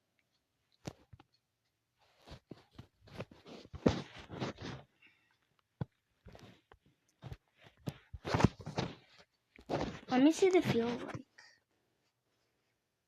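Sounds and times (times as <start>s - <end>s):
rustling and handling noises: 0.7s - 12.8s.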